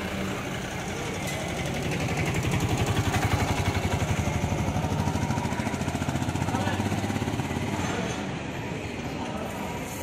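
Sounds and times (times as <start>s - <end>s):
autorickshaw engine driving past: 0.0s - 10.0s.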